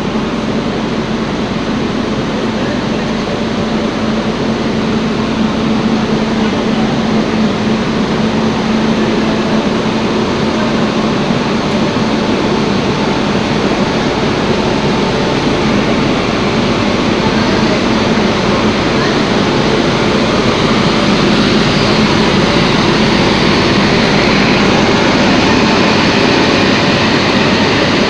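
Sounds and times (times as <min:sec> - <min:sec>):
freight train running: 0:00.0 - 0:28.0
low hum: 0:00.0 - 0:28.0.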